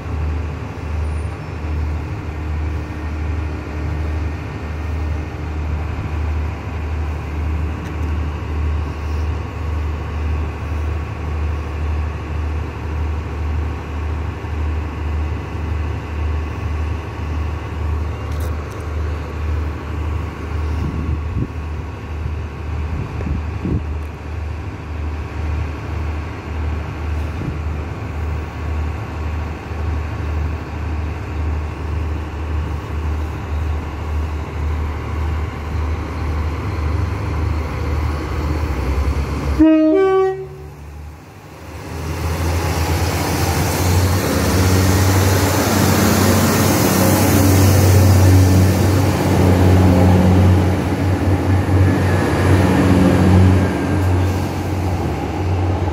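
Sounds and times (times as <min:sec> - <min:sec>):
diesel train engines idling: 0:00.0 - 0:55.9
train passing close by: 0:00.0 - 0:55.9.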